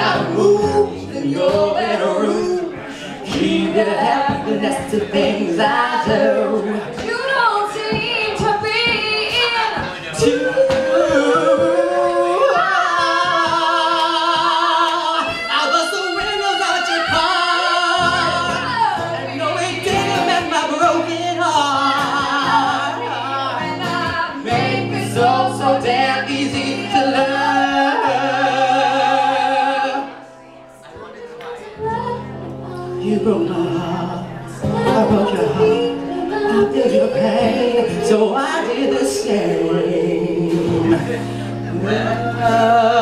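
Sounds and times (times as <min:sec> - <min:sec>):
acoustic guitar: 0:00.0 - 0:43.0
woman and man singing a duet: 0:00.0 - 0:43.0.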